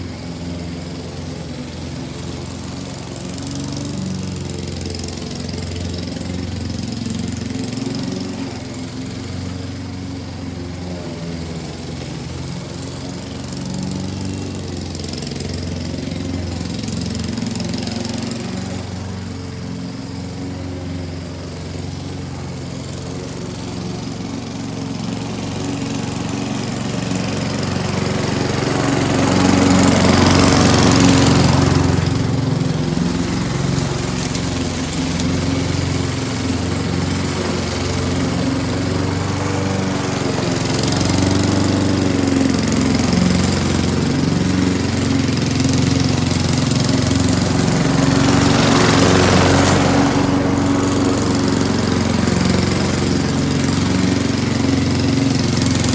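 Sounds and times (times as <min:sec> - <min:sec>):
lawn mower running: 0:00.0 - 0:55.9.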